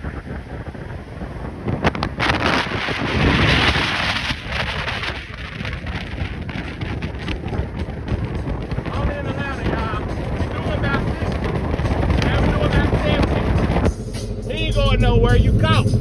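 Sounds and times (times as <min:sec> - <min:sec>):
car road noise: 0:00.0 - 0:16.0
wind buffeting microphone: 0:00.0 - 0:16.0.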